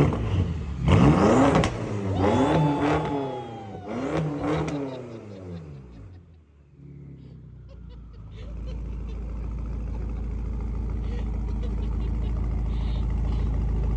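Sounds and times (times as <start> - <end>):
car engine revving: 0.0 - 7.6, 8.6 - 13.9.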